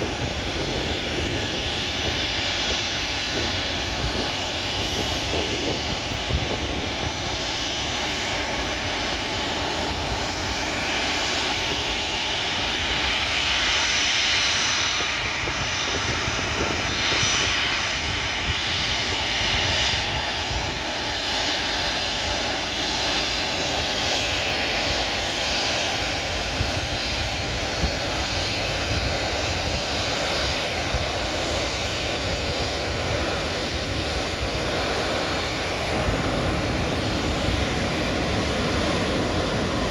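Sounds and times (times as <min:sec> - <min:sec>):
jet engines at low power: 0:00.0 - 0:39.9.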